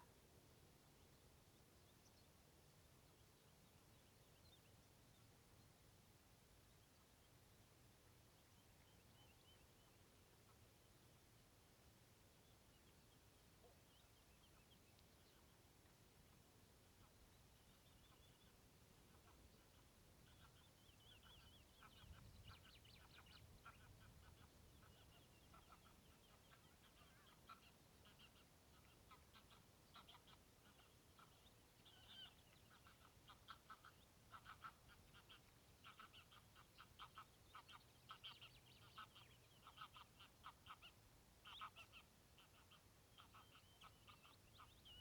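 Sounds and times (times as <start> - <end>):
faint birdsong: 0.0 - 45.0.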